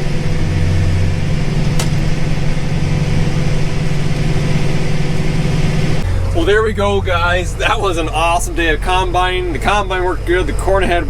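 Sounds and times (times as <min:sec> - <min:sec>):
combine harvester engine humming: 0:00.0 - 0:11.0.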